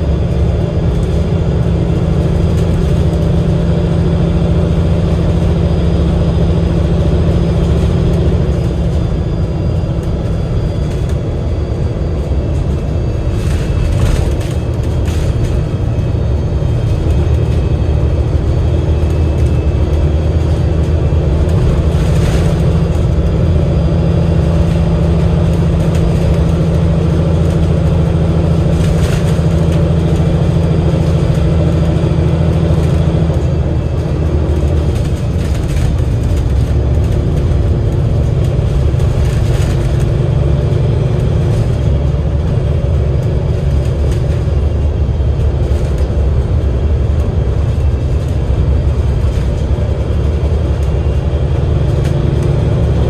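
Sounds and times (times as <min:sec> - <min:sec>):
bus engine drone: 0:00.0 - 0:53.0.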